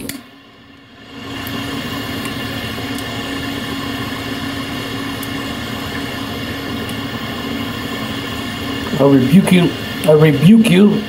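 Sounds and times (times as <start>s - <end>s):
butane torch hissing: 0.1s - 11.0s.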